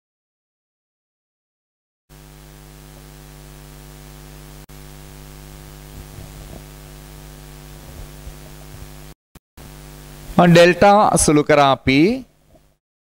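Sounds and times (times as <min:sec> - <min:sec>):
electrical mains hum: 0:02.1 - 0:12.8.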